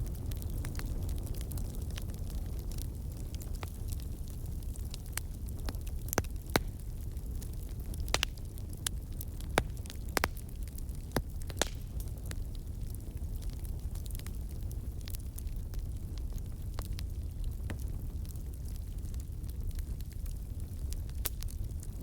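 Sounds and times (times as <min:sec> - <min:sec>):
fire crackling and popping: 0:00.0 - 0:22.0
flames rumbling: 0:00.0 - 0:22.0.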